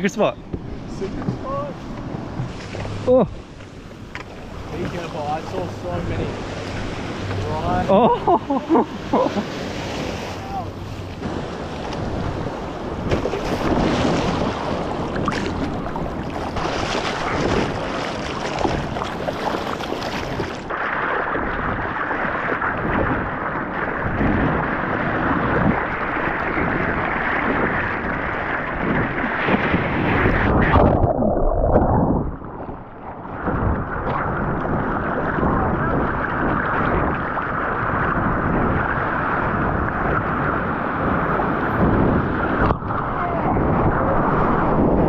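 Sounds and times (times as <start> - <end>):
small waves breaking: 0.0 - 44.8
water sloshing and splashing: 0.6 - 40.3.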